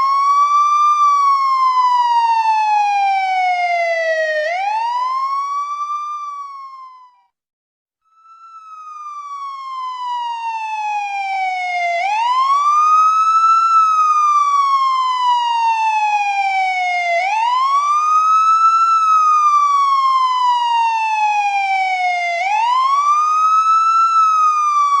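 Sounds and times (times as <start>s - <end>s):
police siren wailing: 0.0s - 7.3s, 8.1s - 25.0s.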